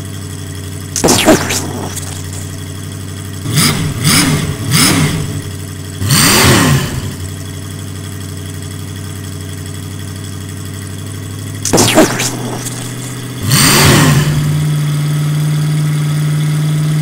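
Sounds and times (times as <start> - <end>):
crane engine revving: 0.0 - 8.3, 11.1 - 17.0.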